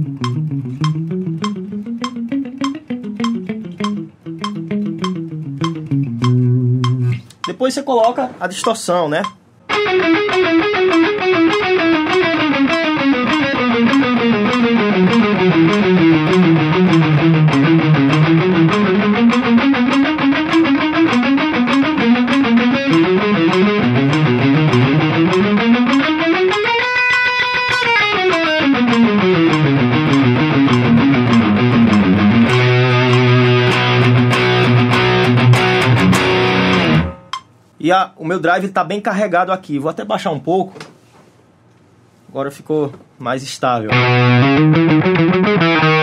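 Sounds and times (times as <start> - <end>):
overdriven electric guitar notes: 0.0 - 7.3, 9.7 - 37.4, 43.9 - 46.0
metronome clicking: 0.0 - 37.6, 43.9 - 46.0.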